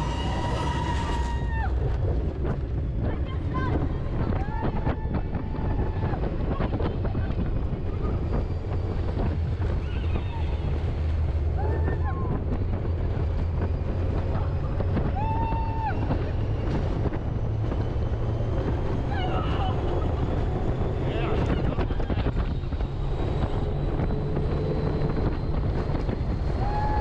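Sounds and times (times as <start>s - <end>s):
low rumble of ride vehicle: 0.0s - 27.0s
wind buffeting microphone: 0.0s - 27.0s.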